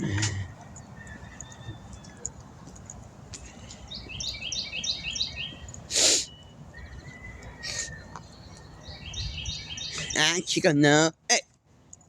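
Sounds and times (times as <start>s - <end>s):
songbird chirping: 0.0s - 10.9s.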